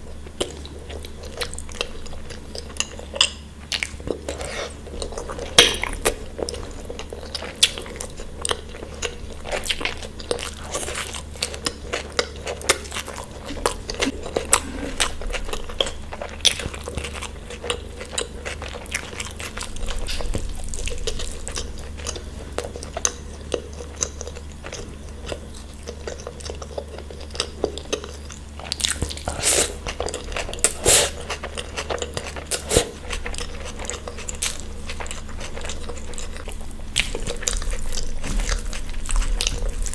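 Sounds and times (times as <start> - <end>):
steady low hum: 0.0 - 39.9
crunchy bites and wet chewing: 0.2 - 39.9.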